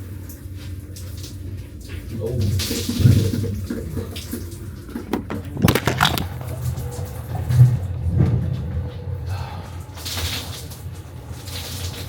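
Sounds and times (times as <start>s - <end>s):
shower water splashing: 0.0s - 12.0s.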